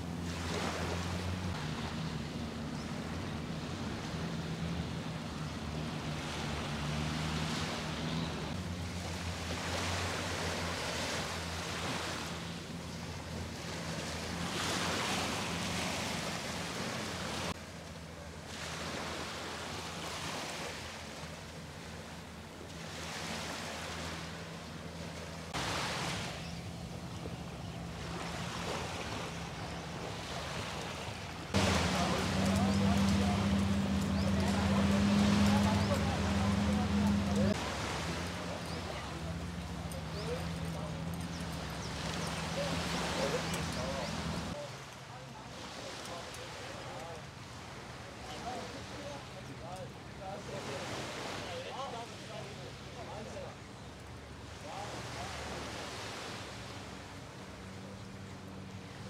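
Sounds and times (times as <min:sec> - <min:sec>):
sea waves washing onto beach: 0:00.0 - 0:59.0.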